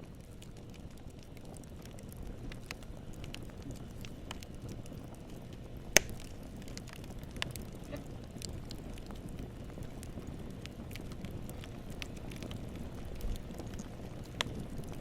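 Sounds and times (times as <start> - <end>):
fire crackles: 0.0 - 15.0
wood fire rumbling: 0.0 - 15.0.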